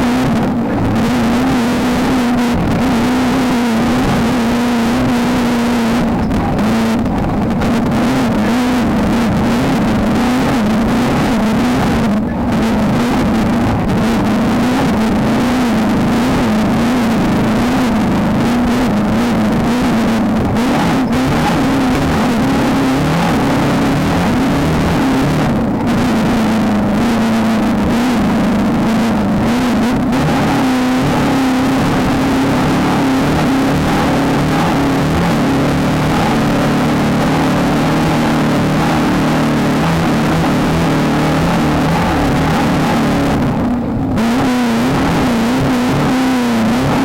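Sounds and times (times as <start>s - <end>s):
race car engine revving: 0.0s - 47.0s
wind and road noise: 0.0s - 47.0s.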